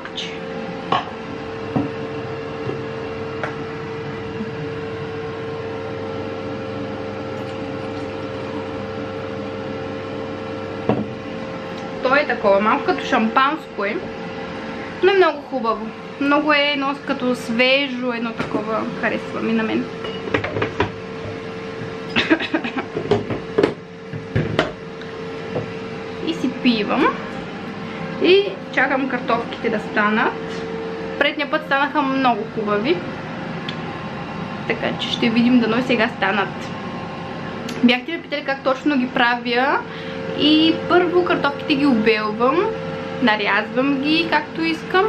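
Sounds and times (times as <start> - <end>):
air fryer humming: 0.0 - 45.0.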